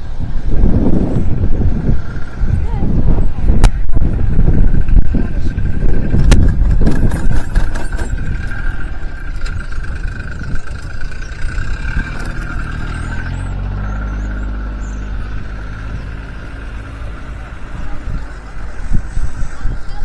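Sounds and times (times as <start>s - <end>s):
motor engine humming: 0.0s - 20.0s
wind buffeting microphone: 0.0s - 20.0s.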